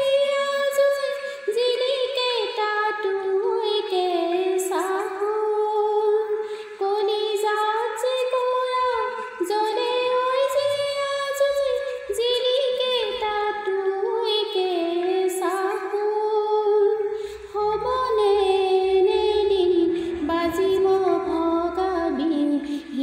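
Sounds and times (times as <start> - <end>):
woman singing folk song: 0.0 - 23.0.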